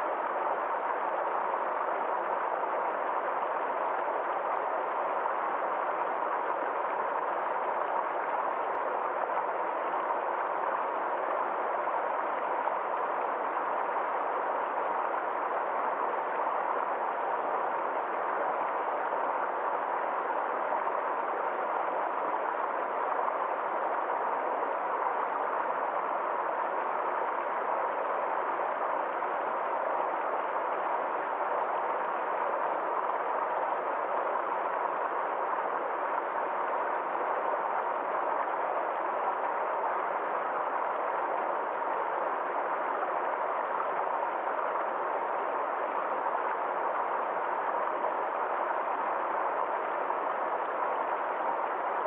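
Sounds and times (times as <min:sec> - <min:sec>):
stream flowing: 0:00.0 - 0:52.0.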